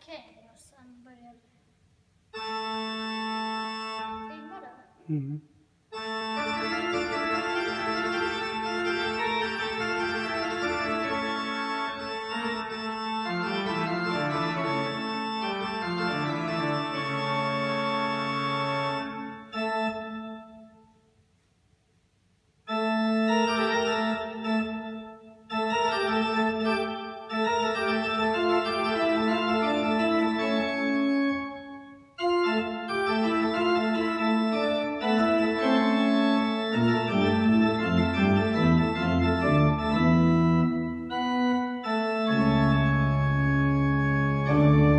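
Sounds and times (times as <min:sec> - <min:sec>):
church organ playing chords: 0:02.3 - 0:21.0, 0:22.7 - 0:44.9.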